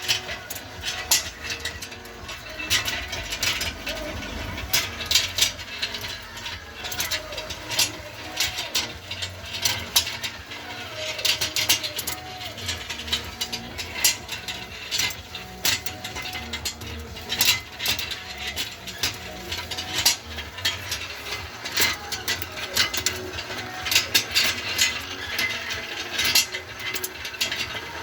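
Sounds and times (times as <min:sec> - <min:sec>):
gears clicking and clattering: 0:00.0 - 0:28.0.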